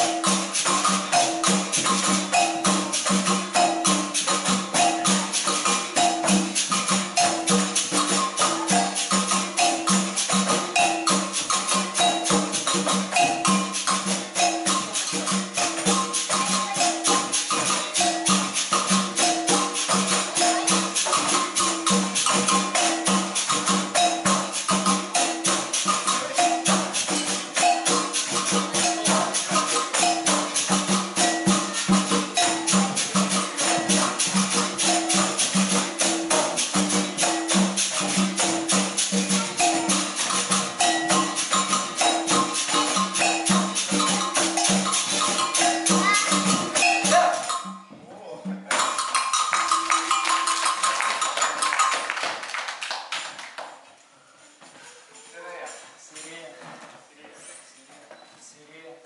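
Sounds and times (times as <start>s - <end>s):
rattle of jingles and shakers: 0.0s - 47.8s, 48.7s - 52.6s
berimbaus: 0.0s - 52.0s
pandeiros: 0.0s - 53.3s
atabaque drum: 0.0s - 53.8s.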